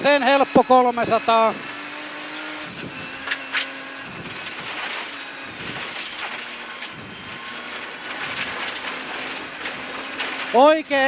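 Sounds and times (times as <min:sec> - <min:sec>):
rally car engine running: 0:00.0 - 0:11.0
tyres on gravel roar: 0:00.0 - 0:11.0.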